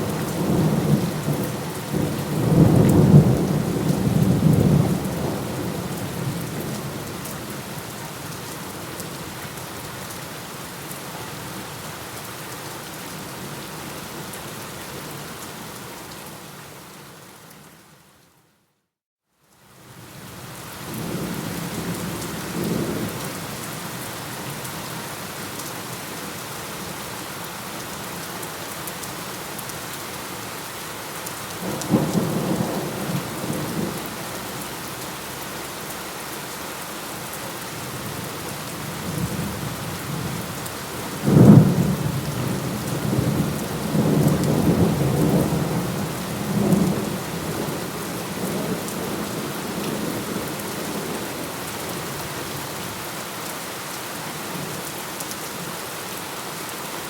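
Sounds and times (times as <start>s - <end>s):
steady rain: 0.0s - 18.5s, 19.3s - 57.0s.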